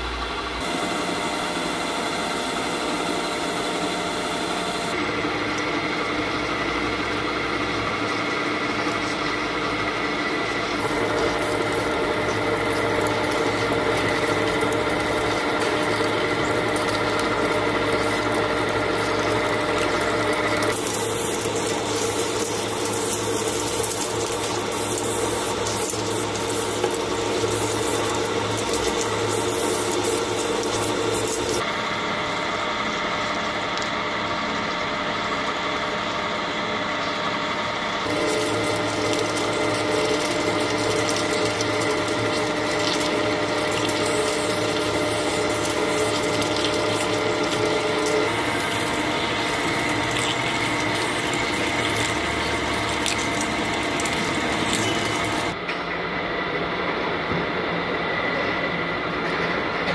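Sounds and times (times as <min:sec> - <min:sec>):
drill press hum: 0:00.0 - 0:55.7.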